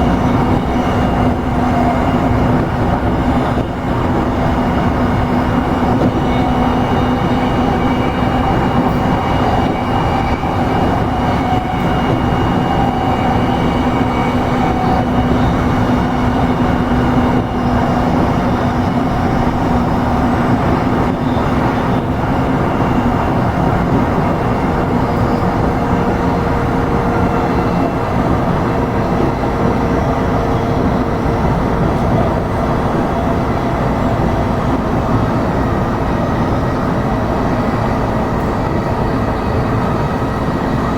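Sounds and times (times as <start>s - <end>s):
faint train hums: 0.0s - 40.9s
train wheels rumbling on rail: 0.0s - 40.9s.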